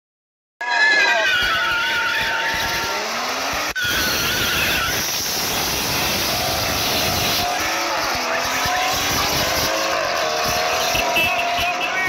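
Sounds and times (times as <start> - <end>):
car engines revving: 1.1 - 12.0.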